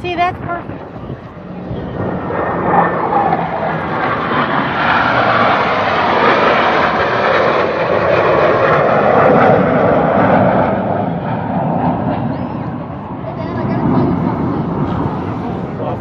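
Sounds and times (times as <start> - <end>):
jet roar on high-speed pass: 0.0 - 16.0.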